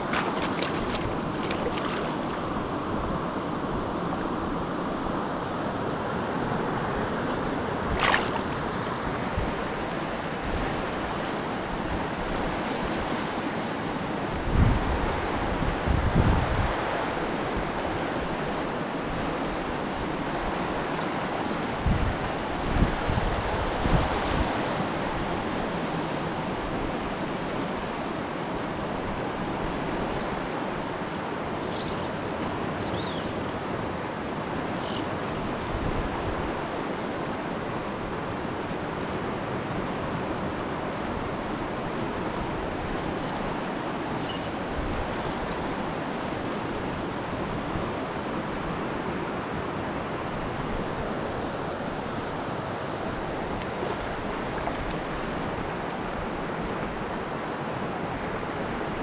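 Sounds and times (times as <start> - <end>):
stream rushing over rocks: 0.0 - 4.0, 4.8 - 59.0.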